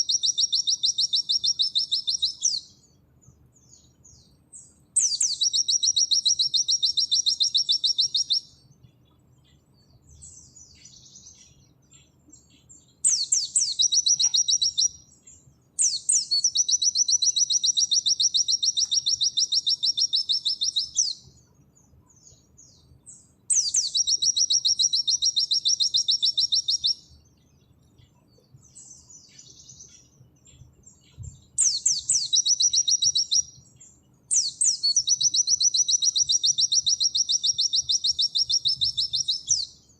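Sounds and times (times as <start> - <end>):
bird high-pitched trills: 0.0 - 2.9, 3.6 - 8.7, 10.1 - 27.2, 28.0 - 39.9.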